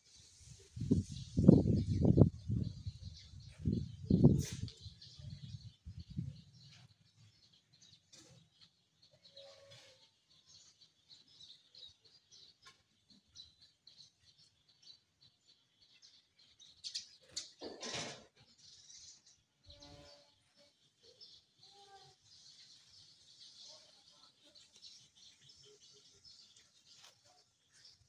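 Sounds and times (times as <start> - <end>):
sparrows chirping: 0.0 - 28.0.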